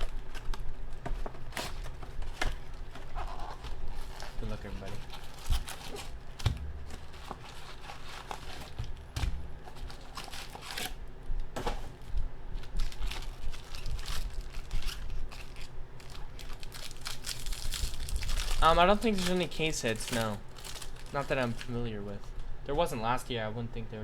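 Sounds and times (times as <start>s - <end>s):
wrapper crinkling and tearing: 0.0s - 22.5s.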